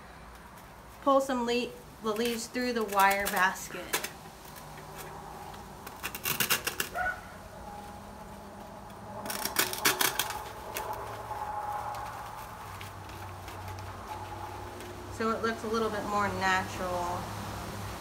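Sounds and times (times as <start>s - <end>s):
dry leaves and moss rustling: 0.1s - 17.0s.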